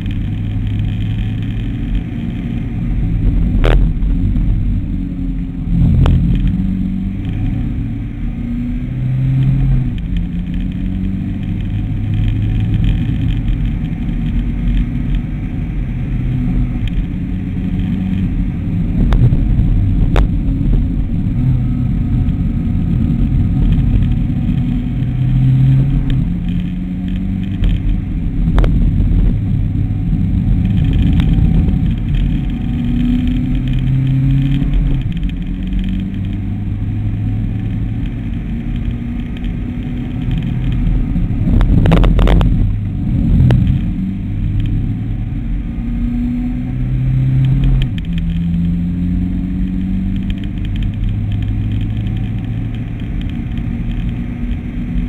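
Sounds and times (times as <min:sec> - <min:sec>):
car engine accelerating: 0:00.0 - 0:55.0
road rumble: 0:00.0 - 0:55.0.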